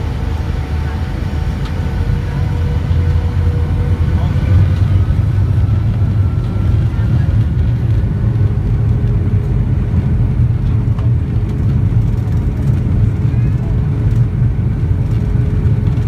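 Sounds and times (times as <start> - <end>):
faint jet engine whine: 0.0 - 16.0
jet cabin low rumble: 0.0 - 16.0.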